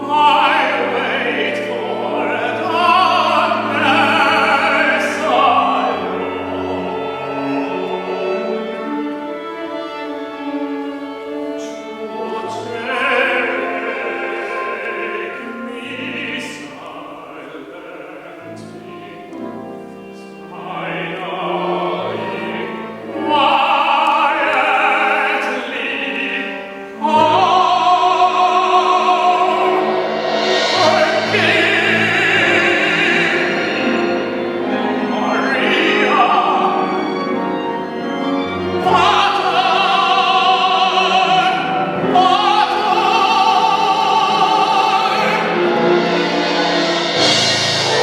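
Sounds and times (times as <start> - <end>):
instrumental accompaniment: 0.0 - 48.0
operatic singing: 0.0 - 48.0.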